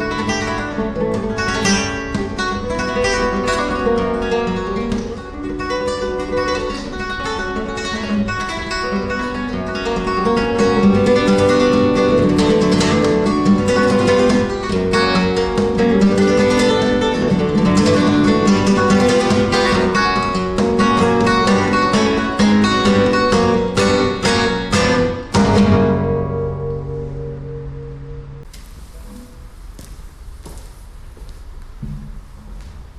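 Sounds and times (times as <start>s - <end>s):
solo flamenco guitar: 0.0s - 29.6s.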